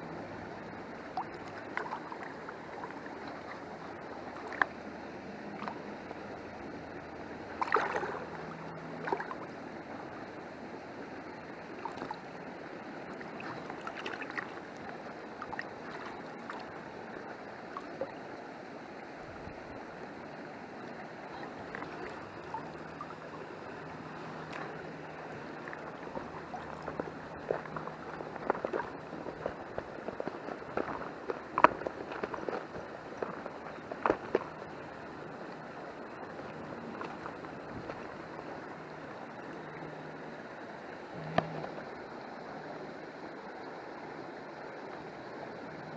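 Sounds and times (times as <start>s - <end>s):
river flowing: 0.0s - 45.9s.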